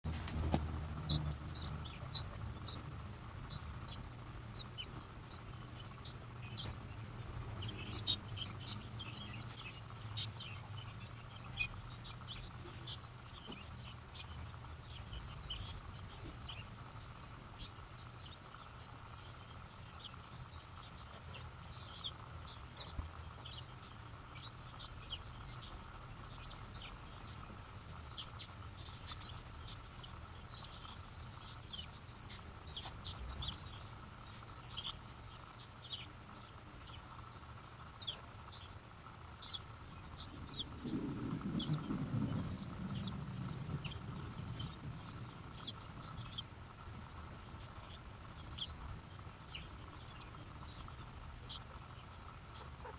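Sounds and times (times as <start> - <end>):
birds chirping: 0.0 - 52.9
low steady hum: 0.0 - 52.9.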